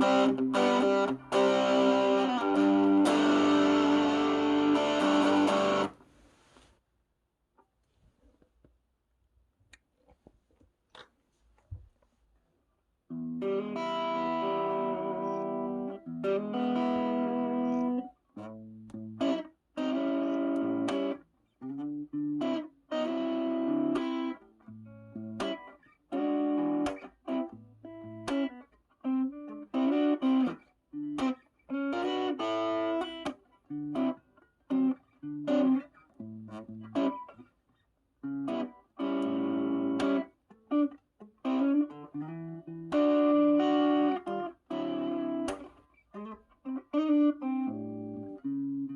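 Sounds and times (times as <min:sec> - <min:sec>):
overdriven electric guitar: 0:00.0 - 0:06.6, 0:13.1 - 0:48.9.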